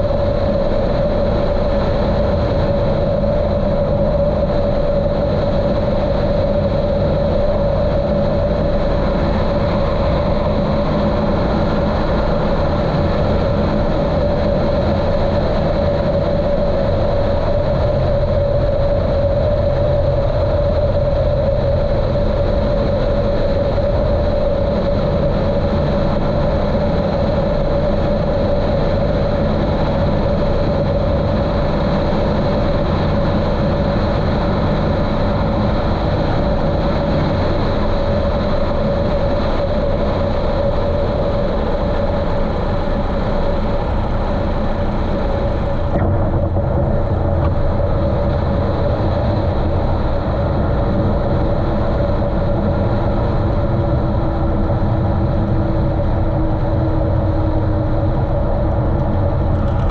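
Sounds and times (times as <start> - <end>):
muffled aircraft engine and propeller drone: 0.0 - 59.9.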